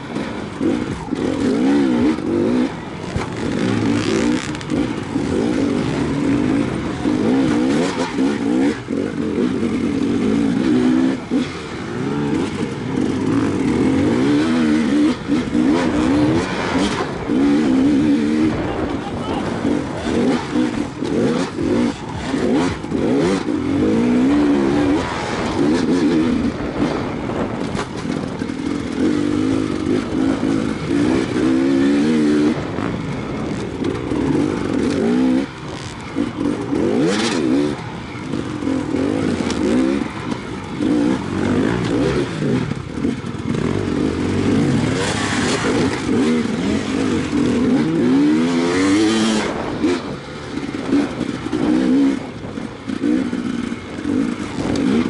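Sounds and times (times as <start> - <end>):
dirt bike engine revving: 0.0 - 55.0
wind: 0.0 - 55.0.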